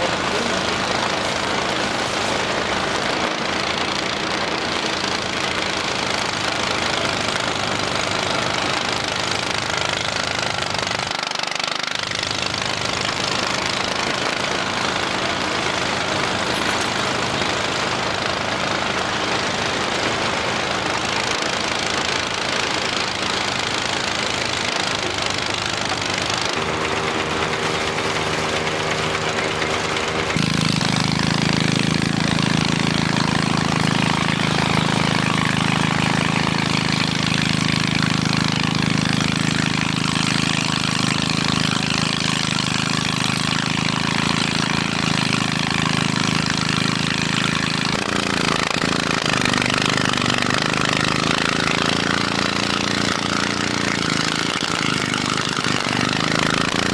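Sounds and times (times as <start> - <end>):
thresher engine hum: 0.0 - 56.9.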